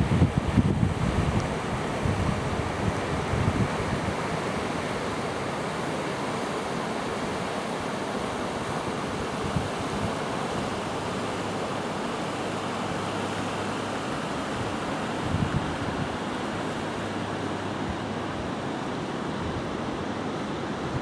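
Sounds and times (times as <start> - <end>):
river water over rapids: 0.0 - 21.0.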